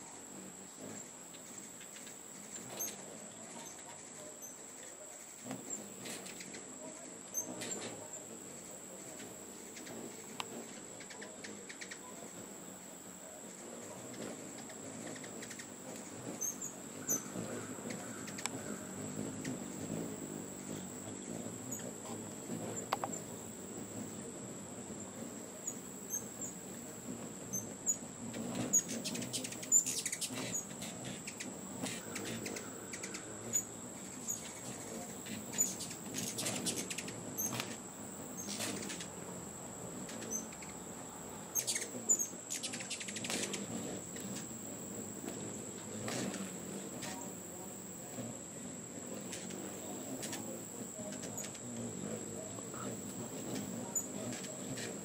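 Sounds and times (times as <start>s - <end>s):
insect chorus drone: 0.0s - 55.0s
hummingbird chip notes: 0.3s - 55.0s.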